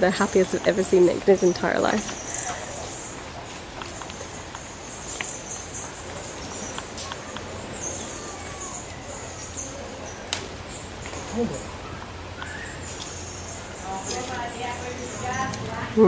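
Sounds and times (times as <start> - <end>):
faint bird chirps: 0.3 - 15.5.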